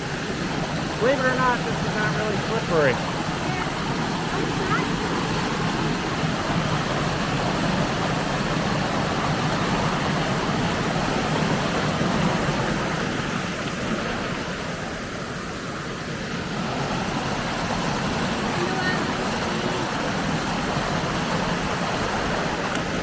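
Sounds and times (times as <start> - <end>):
river water rushing over rocks: 0.0 - 23.0.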